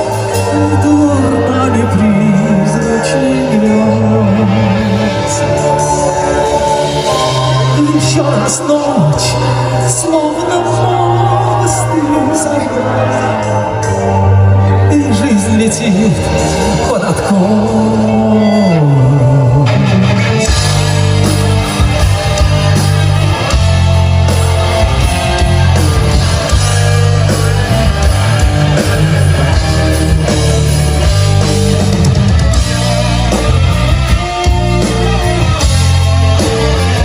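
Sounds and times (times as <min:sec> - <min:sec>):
bass guitar: 0:00.0 - 0:37.0
drums: 0:00.0 - 0:37.0
electric guitar: 0:00.0 - 0:37.0.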